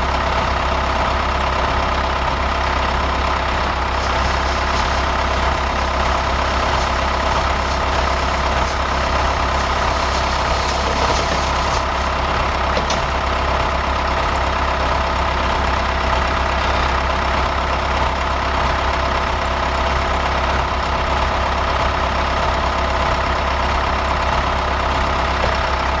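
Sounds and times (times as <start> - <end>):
farm machinery engine running: 0.0 - 26.0.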